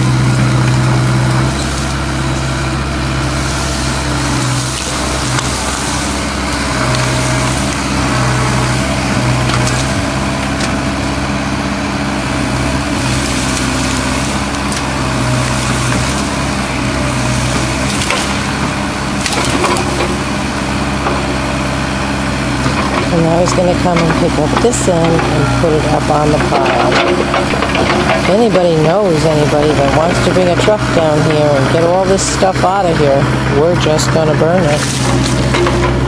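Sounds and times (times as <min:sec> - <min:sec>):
wood cracking and splintering: 0:00.0 - 0:11.0, 0:12.2 - 0:21.4, 0:22.3 - 0:36.0
excavator diesel engine running: 0:00.0 - 0:36.0.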